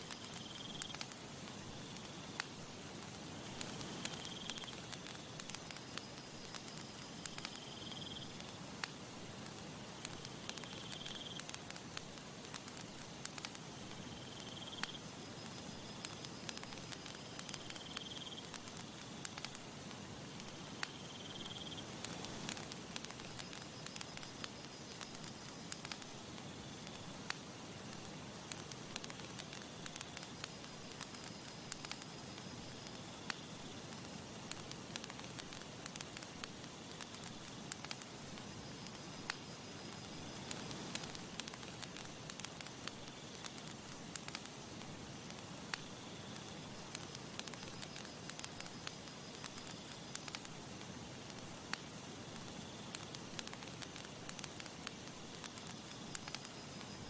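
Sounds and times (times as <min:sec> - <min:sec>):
campfire crackling and popping: 0:00.0 - 0:57.0
soft fire hiss: 0:00.0 - 0:57.0.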